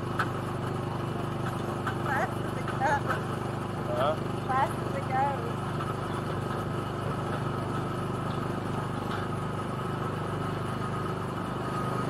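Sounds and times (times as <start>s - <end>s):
go-kart engine droning: 0.0s - 12.0s.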